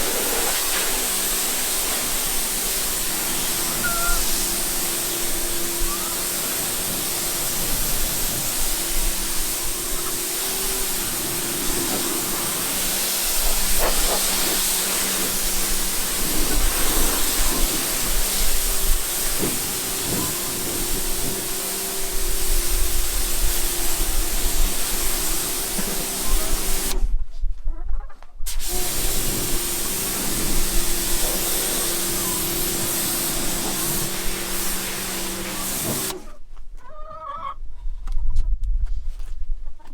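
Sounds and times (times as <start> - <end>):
motor humming: 0.0 - 27.0, 28.5 - 36.4
water spraying hiss: 0.0 - 27.0, 28.5 - 36.3.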